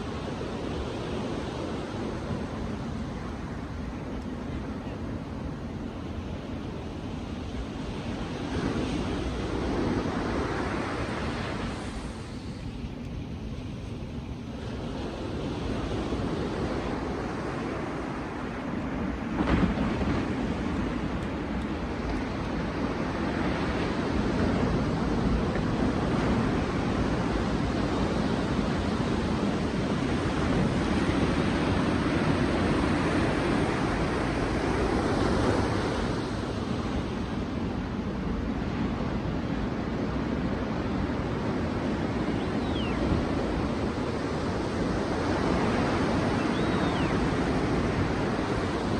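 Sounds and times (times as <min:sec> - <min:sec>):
sea waves breaking on beach: 0:00.0 - 0:48.9
wind noise on microphone: 0:00.0 - 0:48.9.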